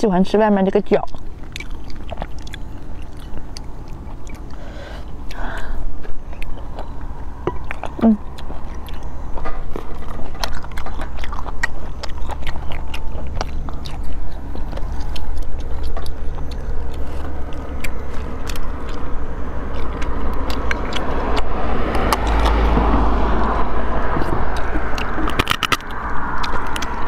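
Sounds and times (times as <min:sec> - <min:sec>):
sucking and chewing: 0:00.1 - 0:27.0
low rumble: 0:01.1 - 0:27.0.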